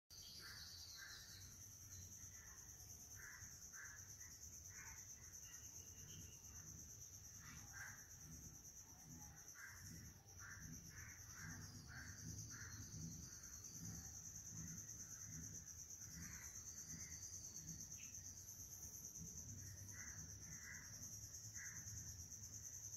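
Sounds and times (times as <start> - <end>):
high-pitched insect drone: 0.2 - 22.9.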